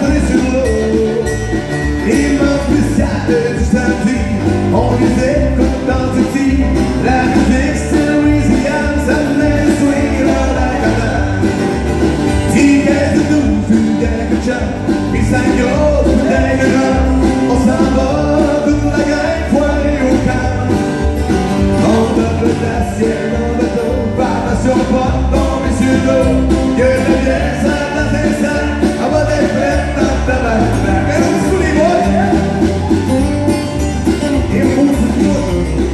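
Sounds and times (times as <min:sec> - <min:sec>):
man singing: 0:00.0 - 0:33.5, 0:34.1 - 0:35.9
strummed acoustic guitars: 0:00.0 - 0:35.9.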